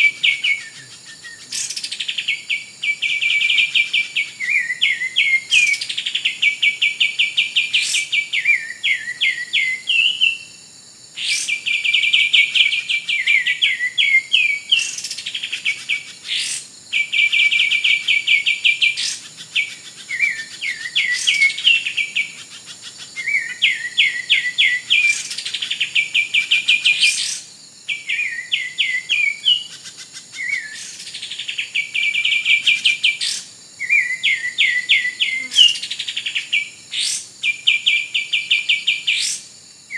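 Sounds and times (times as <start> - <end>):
bird song trill: 0.0 - 39.9.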